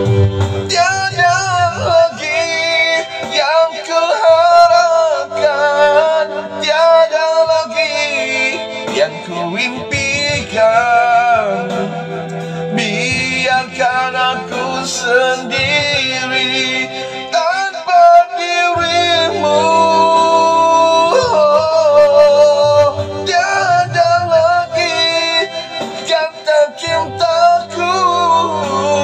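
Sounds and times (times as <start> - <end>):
pop ballad music: 0.0 - 29.0.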